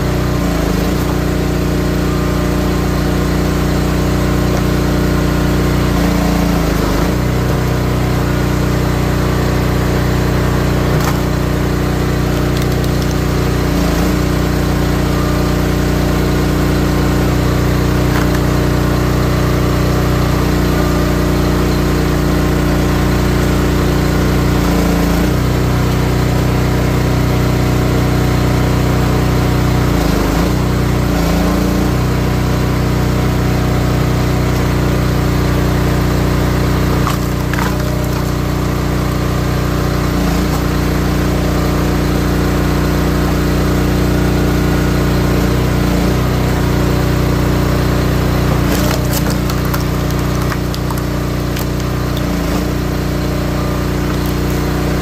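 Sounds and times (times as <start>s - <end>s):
log splitter engine running: 0.0s - 55.0s.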